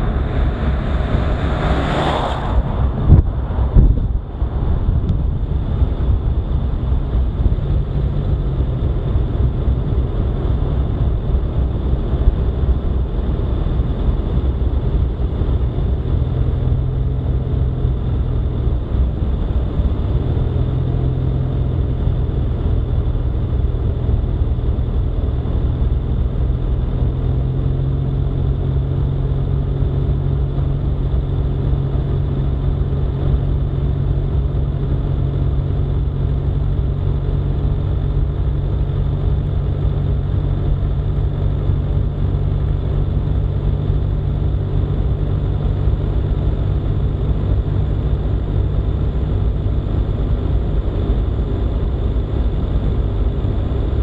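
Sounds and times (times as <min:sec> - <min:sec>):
hum: 0:00.0 - 0:54.0
vehicle driving rumble: 0:00.0 - 0:54.0.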